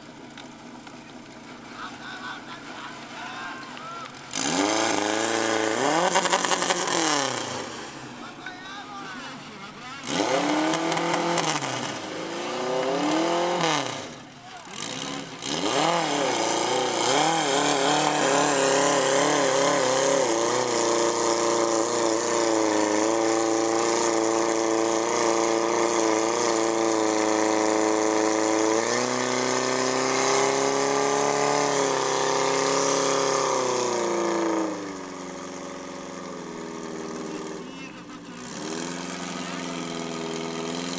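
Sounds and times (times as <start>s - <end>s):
petrol engine revving: 0.0s - 40.9s.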